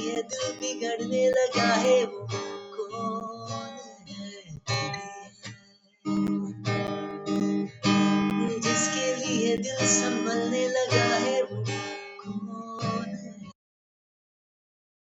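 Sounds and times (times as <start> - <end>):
acoustic guitar strumming chords: 0.0 - 13.5.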